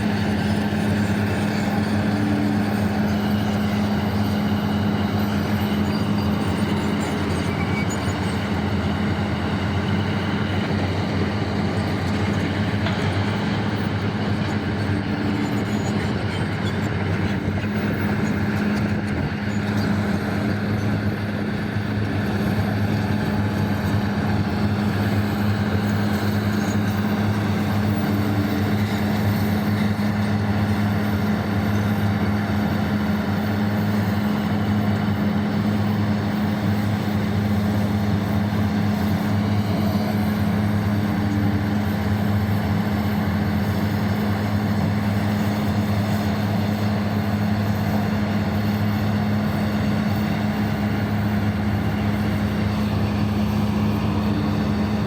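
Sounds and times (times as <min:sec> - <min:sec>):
large diesel engines droning: 0:00.0 - 0:55.0.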